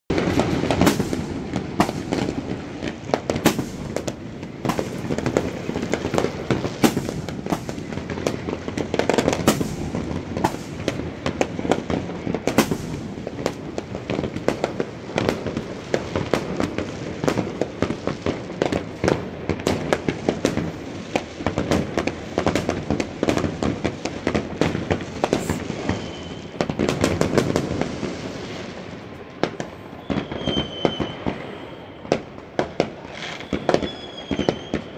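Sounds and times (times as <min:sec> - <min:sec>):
fireworks bangs and crackles: 0:00.1 - 0:34.9.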